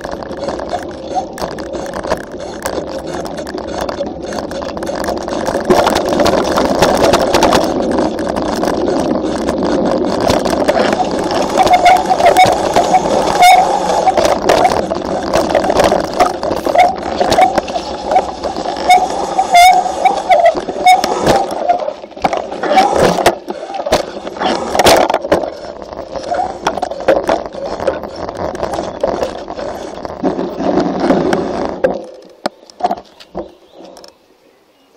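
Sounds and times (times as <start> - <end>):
bike tyres and frame rattling: 0.0 - 34.2.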